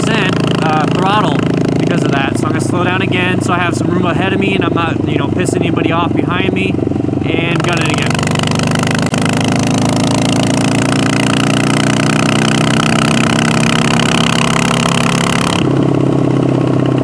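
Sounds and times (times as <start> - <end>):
motorcycle engine running loud: 0.0 - 17.0.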